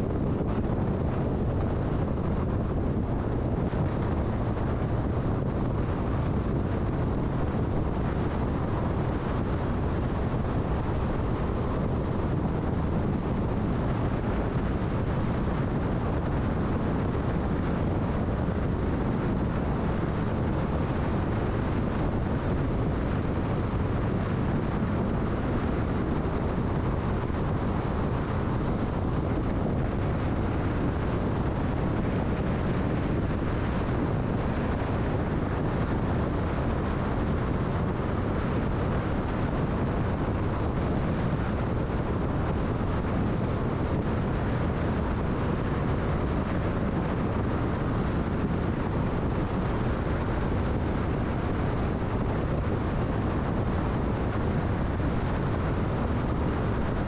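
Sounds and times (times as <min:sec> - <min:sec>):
car road noise at speed: 0:00.0 - 0:57.0.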